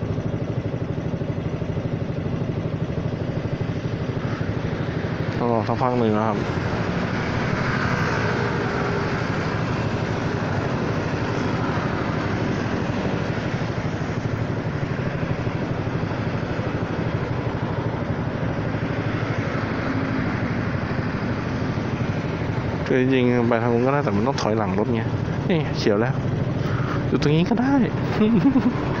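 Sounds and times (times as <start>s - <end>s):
scooter engine idling: 0.0s - 29.0s
surrounding traffic: 0.0s - 29.0s.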